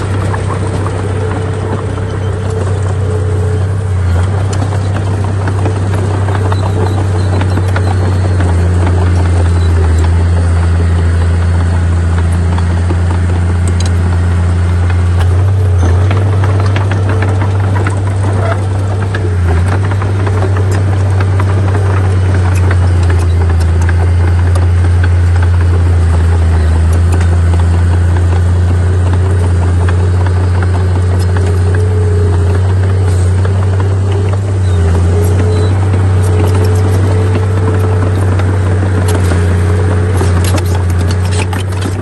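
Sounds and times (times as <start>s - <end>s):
heavy diesel machinery engine hum: 0.0s - 42.0s.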